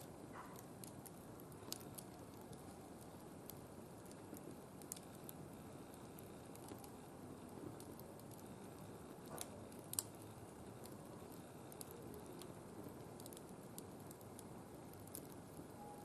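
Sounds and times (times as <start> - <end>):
wood fire pops: 0.0 - 15.8
wood fire crackling: 0.0 - 16.0.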